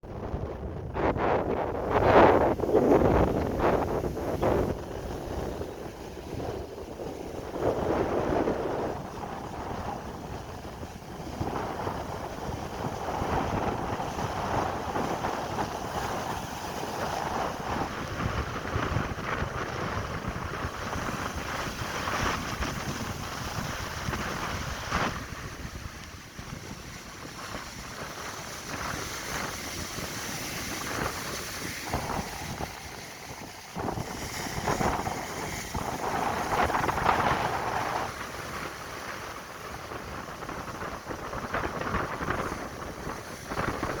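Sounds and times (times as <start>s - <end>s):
wind gusting on microphone: 0.0s - 44.0s
ocean surf breaking: 0.1s - 44.0s.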